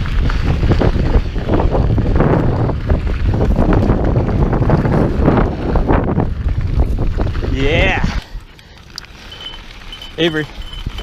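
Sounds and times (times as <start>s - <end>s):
wind buffeting microphone: 0.0s - 9.0s, 9.6s - 11.0s.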